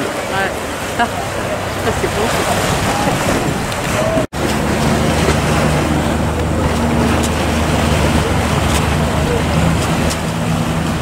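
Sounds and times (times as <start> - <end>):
boat engines rumbling: 0.0 - 11.0
churning sea water: 0.0 - 11.0
wind: 0.0 - 11.0.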